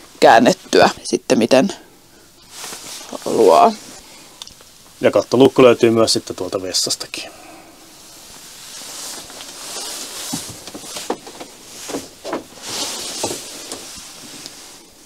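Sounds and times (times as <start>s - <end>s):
rustling: 1.8s - 15.0s.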